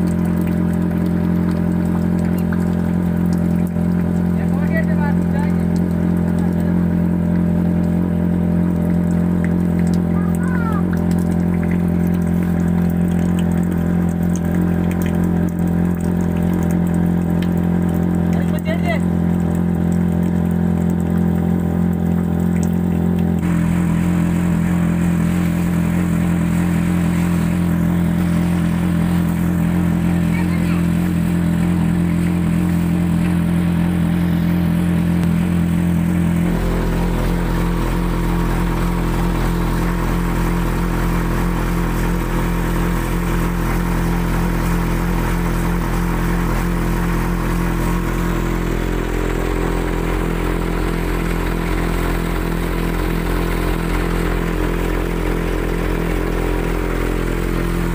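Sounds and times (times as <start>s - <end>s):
tractor engine drone: 0.0s - 57.9s.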